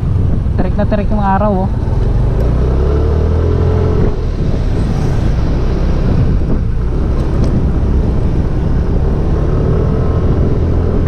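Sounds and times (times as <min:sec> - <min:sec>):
wind buffeting helmet: 0:00.0 - 0:11.0.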